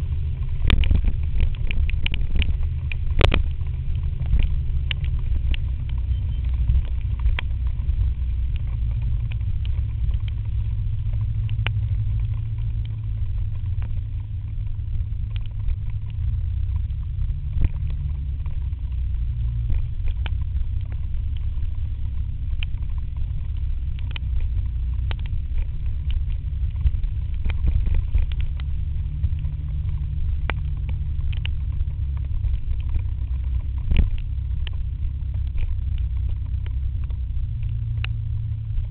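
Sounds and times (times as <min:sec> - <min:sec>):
scooter engine drone: 0:00.0 - 0:38.9
wind rumble on microphone: 0:00.0 - 0:38.9.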